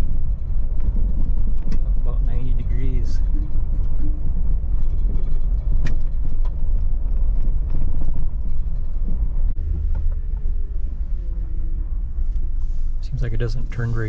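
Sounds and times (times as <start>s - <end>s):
pickup truck engine rumble: 0.0s - 14.0s
road noise: 0.0s - 14.0s.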